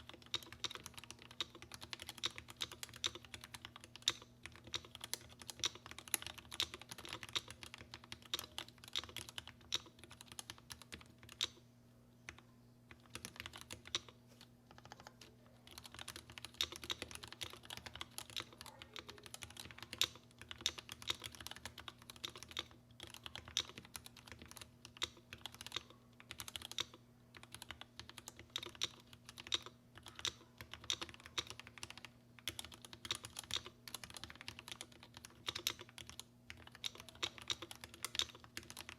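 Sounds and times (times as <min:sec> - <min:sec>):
typing on mechanical keyboard: 0:00.0 - 0:11.6, 0:12.3 - 0:38.9.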